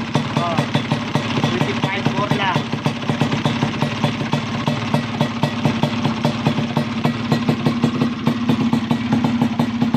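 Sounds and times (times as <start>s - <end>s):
motorcycle engine idling: 0.0s - 9.9s.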